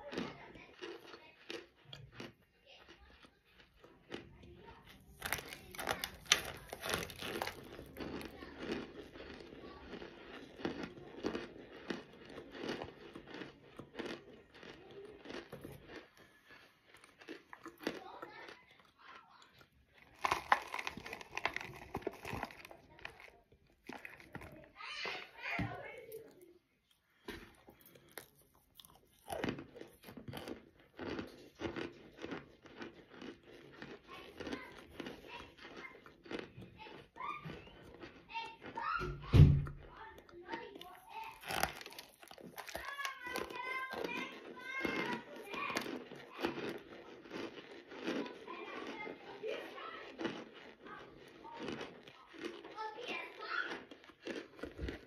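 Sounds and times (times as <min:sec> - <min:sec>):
chewing crunches: 0:00.0 - 0:55.0.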